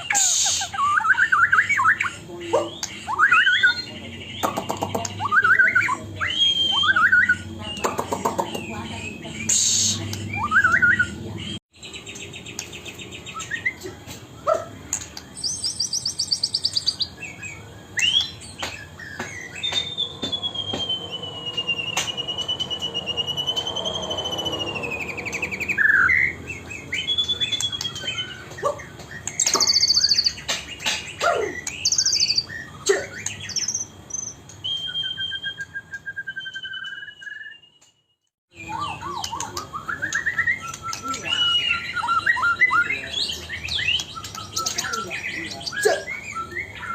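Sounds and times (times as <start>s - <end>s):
songbird singing varied song: 0.0s - 46.9s.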